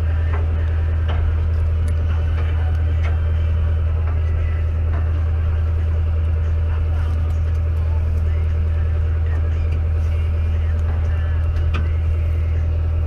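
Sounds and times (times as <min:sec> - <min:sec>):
boat engine low drone: 0:00.0 - 0:13.0.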